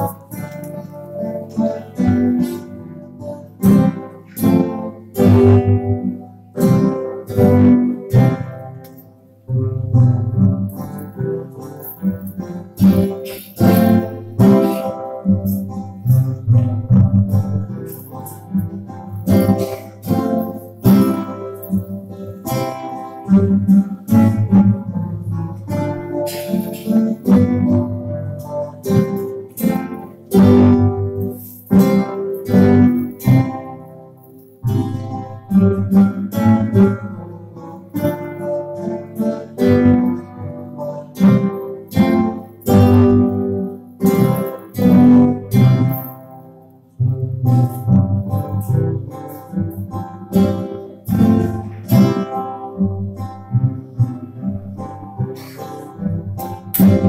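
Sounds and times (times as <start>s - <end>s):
acoustic guitars strumming chords: 0.0s - 57.0s.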